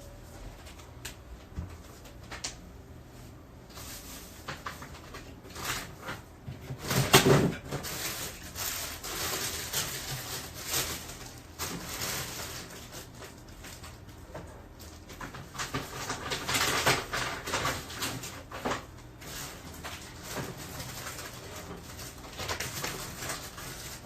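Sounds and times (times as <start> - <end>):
rustling: 3.1 - 24.0.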